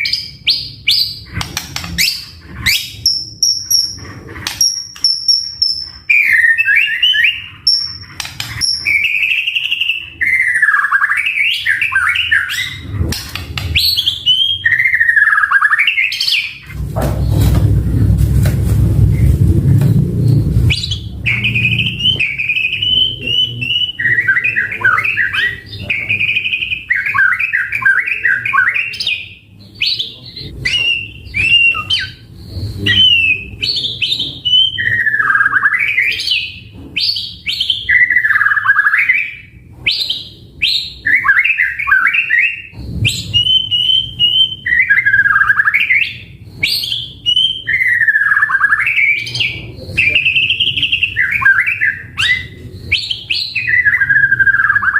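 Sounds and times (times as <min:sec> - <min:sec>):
songbird singing: 0:00.0 - 0:17.5, 0:19.0 - 0:54.9
faint low hum: 0:00.0 - 0:54.9.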